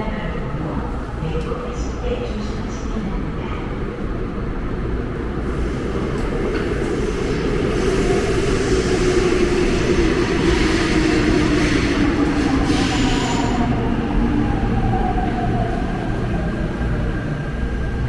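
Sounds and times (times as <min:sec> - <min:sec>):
subway train pulling in: 0:00.0 - 0:18.0.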